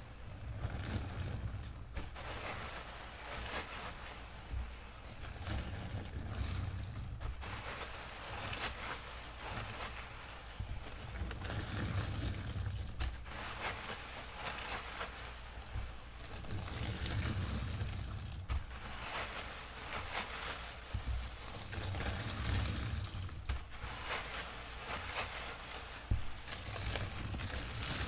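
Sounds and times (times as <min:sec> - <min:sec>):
sponge squishing and swishing: 0:00.0 - 0:28.0.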